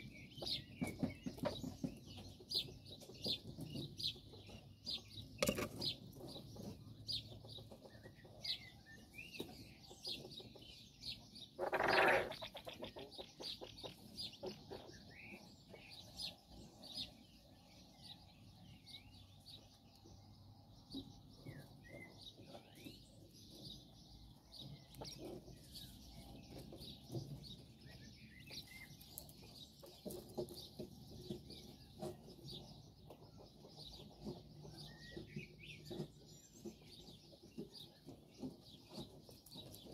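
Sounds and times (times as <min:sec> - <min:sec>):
quail peeping and chirping: 0:00.0 - 0:39.9.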